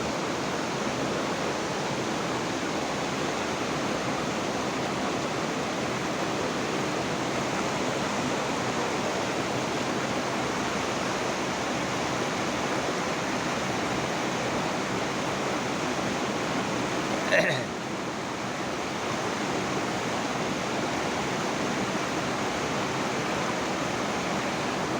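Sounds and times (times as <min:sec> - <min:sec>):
water rushing: 0:00.0 - 0:24.9.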